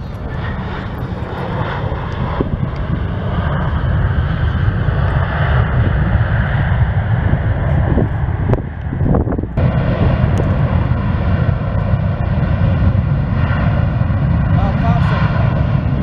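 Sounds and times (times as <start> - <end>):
jet engines reverse thrust: 0.0 - 16.0.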